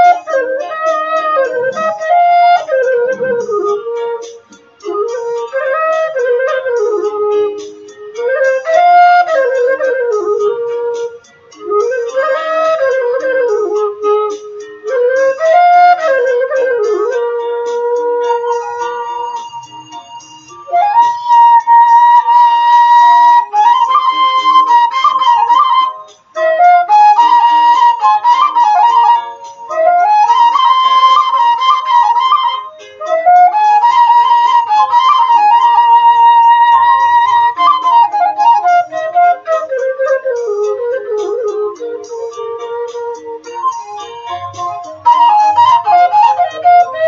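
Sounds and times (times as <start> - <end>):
slow flute melody: 0.0 - 47.0.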